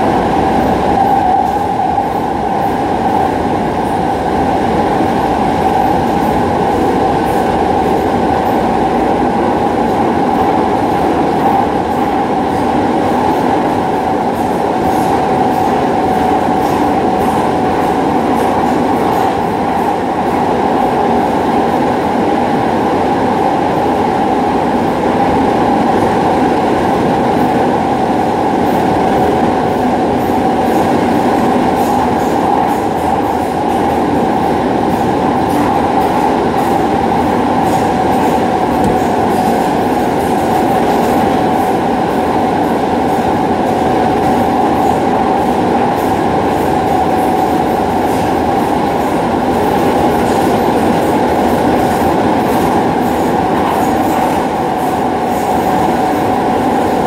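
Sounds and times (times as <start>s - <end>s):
steady train whine: 0.0s - 57.0s
train wheels rumbling on rail: 0.0s - 57.0s.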